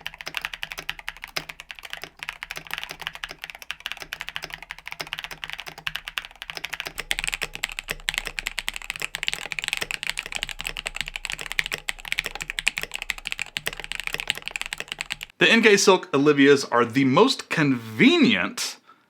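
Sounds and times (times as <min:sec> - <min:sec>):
fast mechanical keyboard typing: 0:00.0 - 0:15.3.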